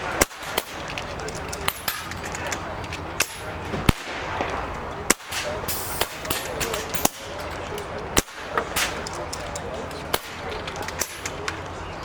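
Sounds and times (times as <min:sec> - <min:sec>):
air rifle shots: 0:00.0 - 0:11.6.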